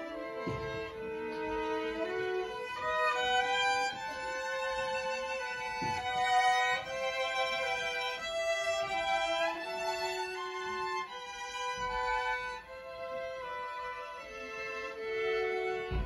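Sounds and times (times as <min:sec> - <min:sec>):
violin trio playing slow melody: 0:00.0 - 0:16.0.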